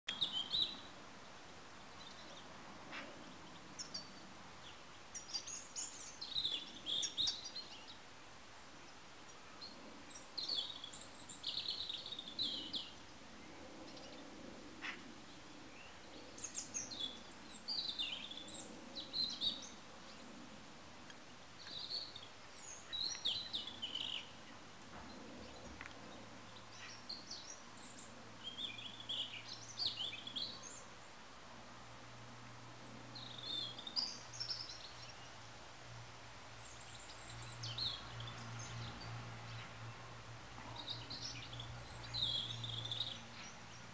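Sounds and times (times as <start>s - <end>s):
small birds chirping: 0.1s - 31.4s, 32.0s - 43.9s.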